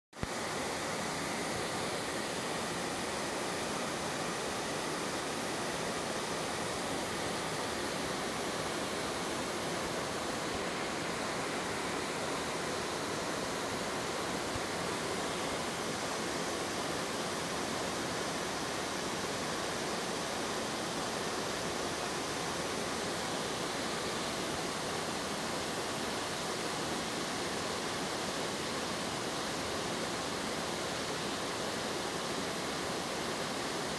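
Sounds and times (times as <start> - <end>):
waterfall rushing over rock: 0.2 - 33.9.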